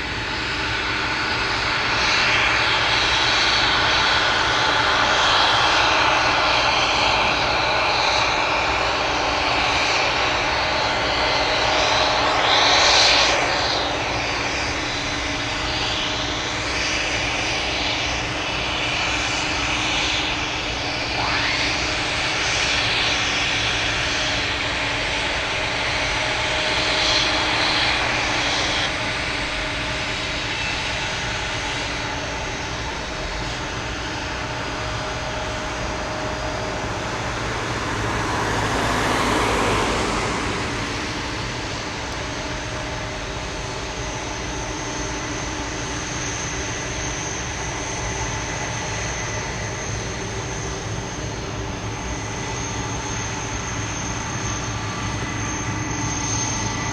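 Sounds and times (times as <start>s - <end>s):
jet engines running: 0.0s - 56.9s.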